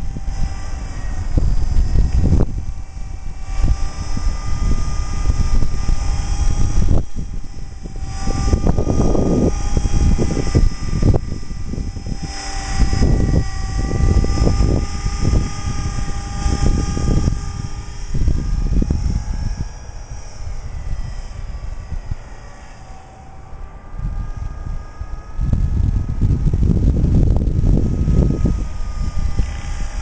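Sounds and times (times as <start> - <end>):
rc helicopter motor and rotor whine: 0.0 - 30.0
wind buffeting microphone: 0.0 - 30.0.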